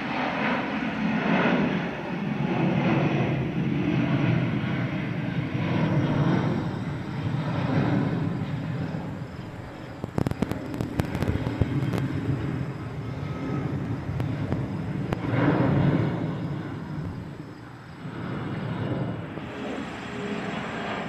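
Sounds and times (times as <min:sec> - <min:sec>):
jet engine rumble: 0:00.0 - 0:21.0.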